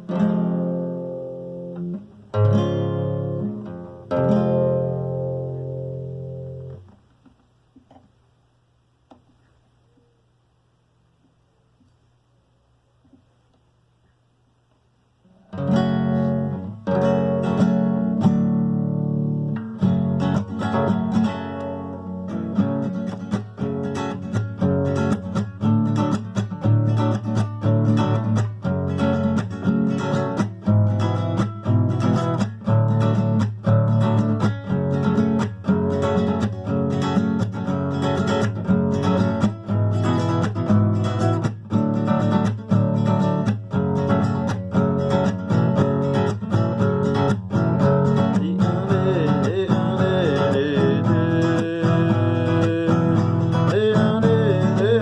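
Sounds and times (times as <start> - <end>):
strummed acoustic guitar: 0.0 - 7.0, 15.5 - 55.0.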